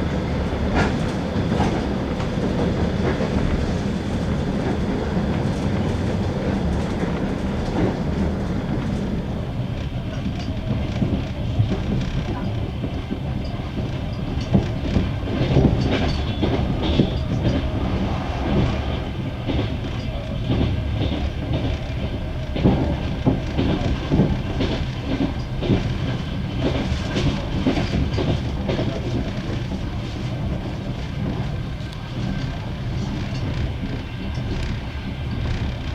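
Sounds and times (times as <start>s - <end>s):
train wheels clattering over rail joints: 0.1s - 35.9s.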